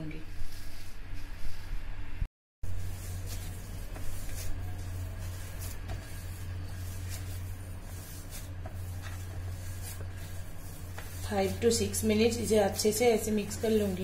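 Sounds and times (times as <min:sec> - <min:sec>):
steady low hum: 0:00.0 - 0:14.0
hand kneading soft dough: 0:02.6 - 0:14.0.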